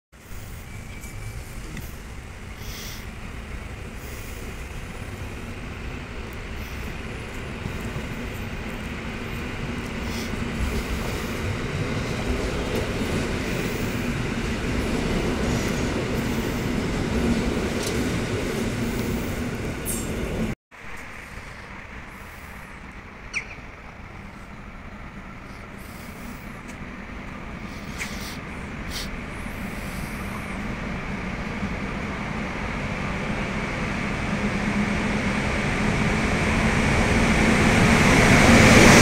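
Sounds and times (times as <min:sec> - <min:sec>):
train running on rails: 0:00.2 - 0:39.0.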